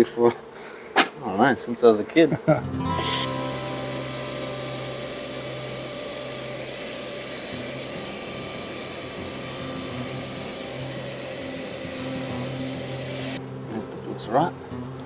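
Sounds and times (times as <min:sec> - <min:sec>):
vacuum motor hum: 0:02.6 - 0:15.0.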